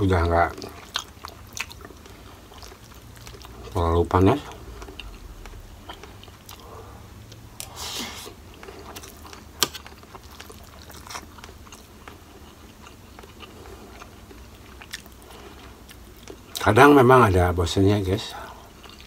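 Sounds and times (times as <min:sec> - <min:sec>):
person chewing food: 0:00.2 - 0:16.6, 0:18.4 - 0:19.0.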